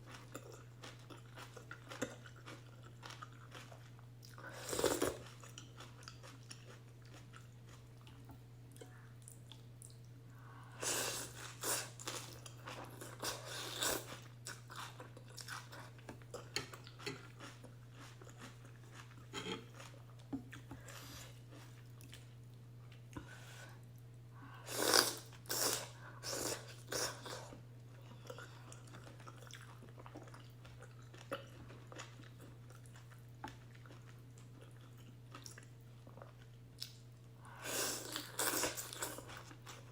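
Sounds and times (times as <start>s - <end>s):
person chewing noodles: 0.0s - 8.3s, 10.7s - 22.3s, 24.7s - 37.0s, 37.6s - 39.9s.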